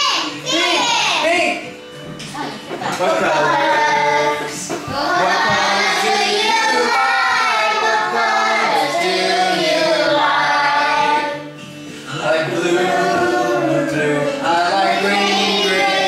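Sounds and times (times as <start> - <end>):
children's song singing: 0.0 - 1.2, 2.4 - 16.0.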